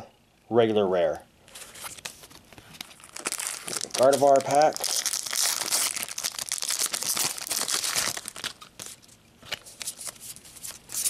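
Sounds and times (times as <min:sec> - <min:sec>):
foil wrapper crinkling and tearing: 0:01.6 - 0:11.0.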